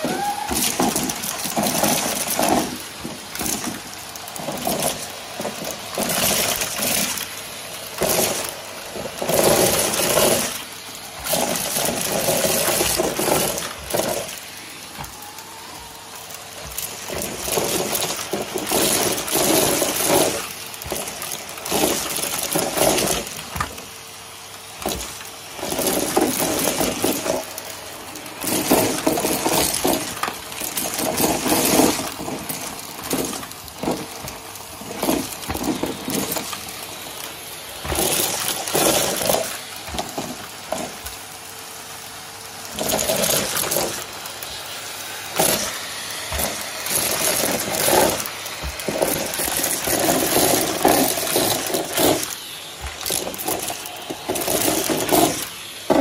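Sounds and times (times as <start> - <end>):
debris clattering up hose: 0.0 - 56.0
vacuum cleaner motor humming: 0.0 - 56.0.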